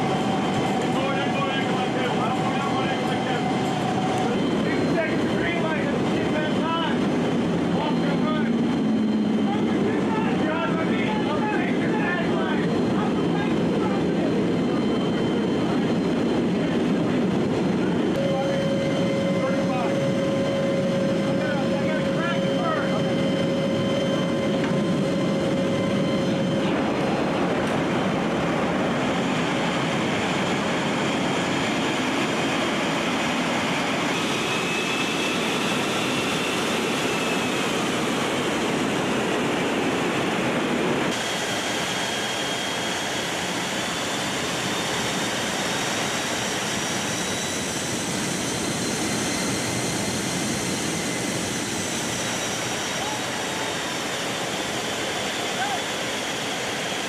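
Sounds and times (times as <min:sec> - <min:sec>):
aircraft cabin engine noise: 0:00.0 - 0:57.0.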